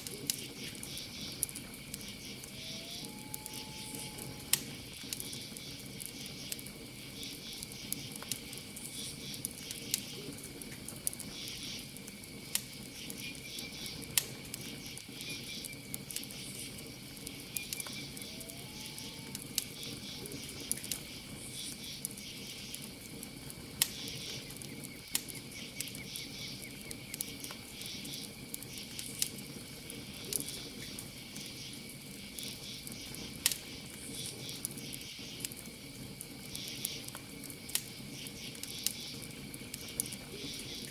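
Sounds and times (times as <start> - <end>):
campfire crackling and popping: 0.0 - 40.9
cricket trill: 0.0 - 40.9
insect chirping: 0.2 - 10.2, 11.2 - 40.9.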